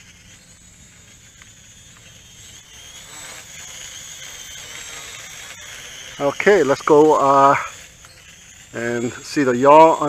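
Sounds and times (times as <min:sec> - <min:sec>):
toy quadcopter whine: 0:00.0 - 0:10.0.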